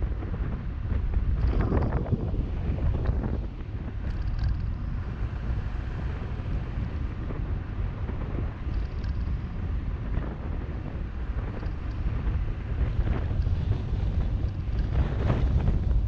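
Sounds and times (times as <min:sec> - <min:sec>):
car rumbling on road: 0:00.0 - 0:16.0
wind buffeting microphone: 0:00.0 - 0:16.0.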